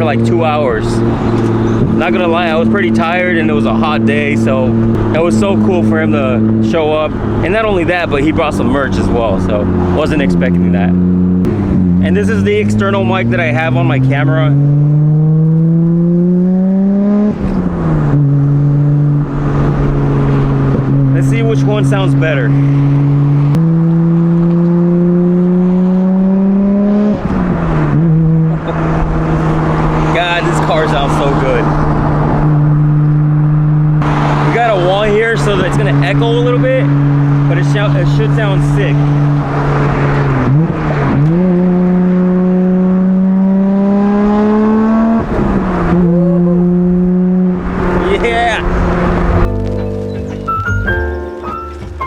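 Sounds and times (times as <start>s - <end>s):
car engine accelerating: 0.0s - 52.0s.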